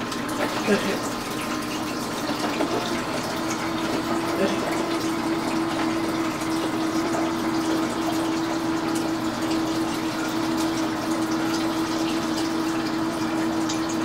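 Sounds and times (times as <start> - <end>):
faucet running water into bucket: 0.0 - 14.0.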